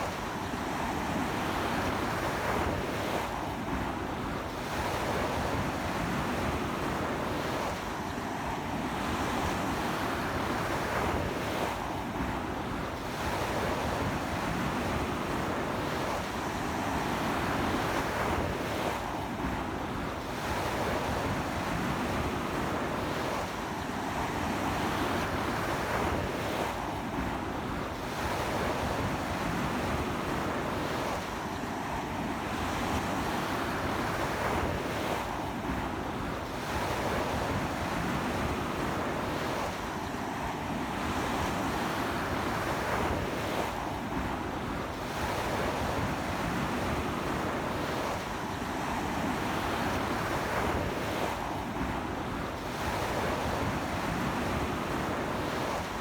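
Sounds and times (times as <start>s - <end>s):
ocean waves washing on beach: 0.0s - 56.0s.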